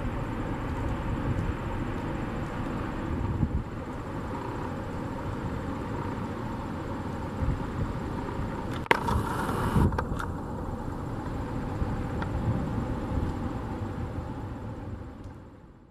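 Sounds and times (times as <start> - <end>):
deep jet engine rumble: 0.0 - 15.9.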